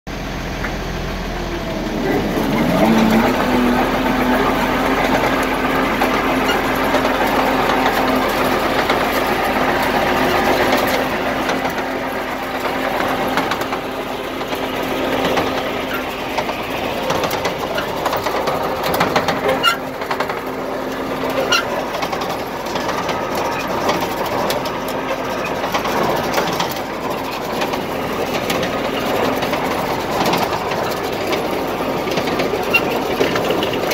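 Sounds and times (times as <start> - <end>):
grinder-mixer mechanical rattle: 0.1 - 33.9.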